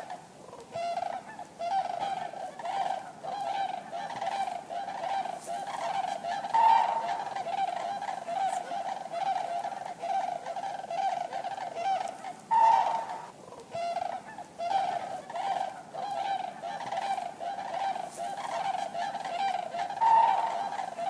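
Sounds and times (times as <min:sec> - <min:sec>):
cranes honking calls: 0:00.0 - 0:21.0.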